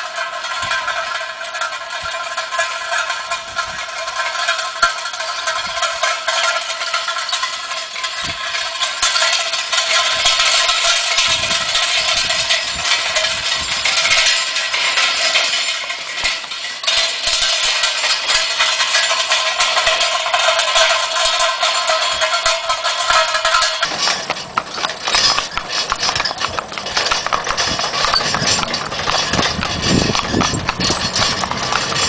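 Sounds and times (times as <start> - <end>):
metallic rattling and ringing: 0.0 - 32.0.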